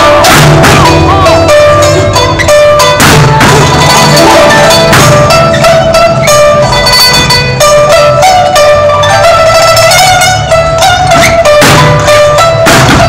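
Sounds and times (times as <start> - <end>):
low bass: 0.0 - 13.0
sharp percussion hits: 0.0 - 13.0
zither notes: 0.0 - 13.0.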